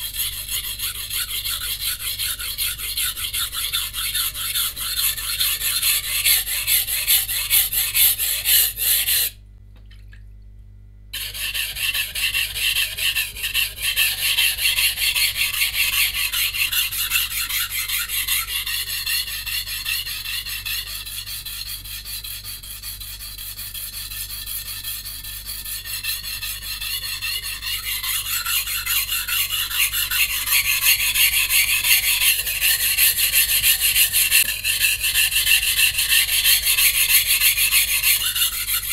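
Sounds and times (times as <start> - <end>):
knife scraping on whetstone: 0.0 - 9.4, 11.2 - 38.9.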